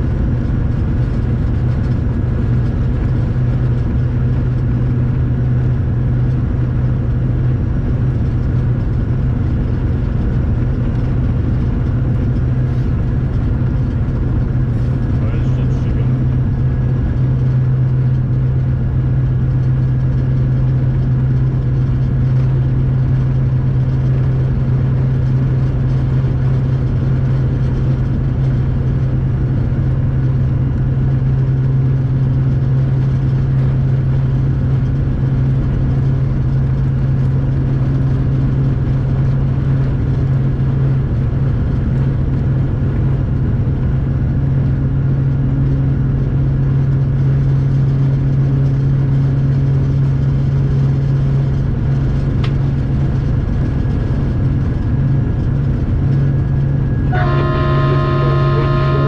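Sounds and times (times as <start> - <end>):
diesel locomotive engine droning: 0.0 - 59.0.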